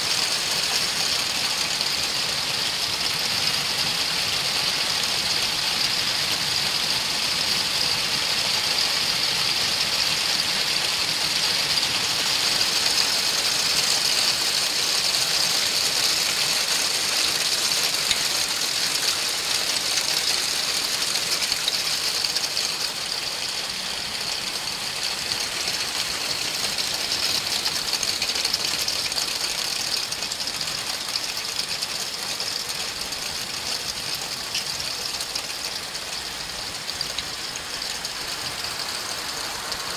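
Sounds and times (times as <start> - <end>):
heavy hail and rain falling: 0.0 - 39.9.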